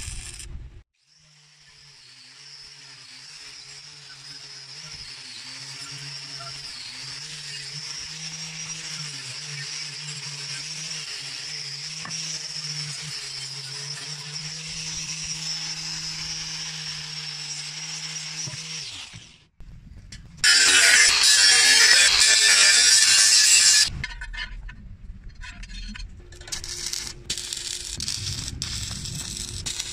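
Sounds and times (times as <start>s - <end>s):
angle grinder sanding steel: 1.1s - 19.4s, 20.4s - 23.9s, 26.4s - 29.9s.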